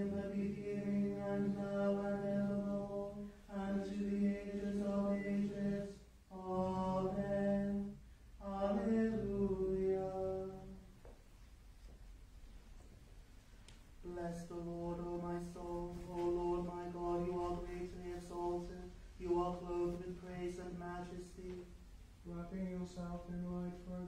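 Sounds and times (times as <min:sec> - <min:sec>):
unaccompanied plainchant singing: 0:00.0 - 0:11.0, 0:14.0 - 0:24.0.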